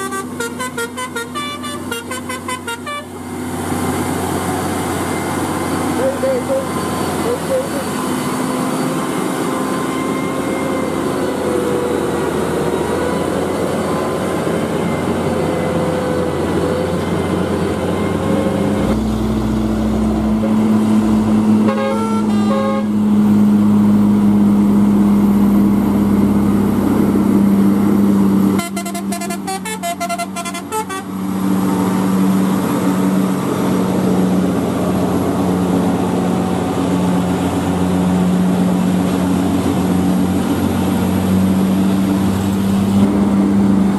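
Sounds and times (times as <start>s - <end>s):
diesel truck engines droning: 0.0s - 43.9s.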